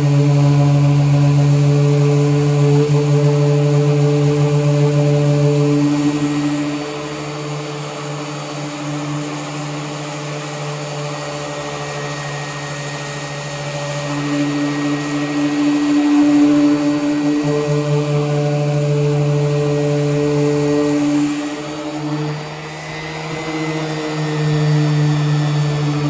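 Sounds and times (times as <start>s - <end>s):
power sander running: 0.0s - 26.0s.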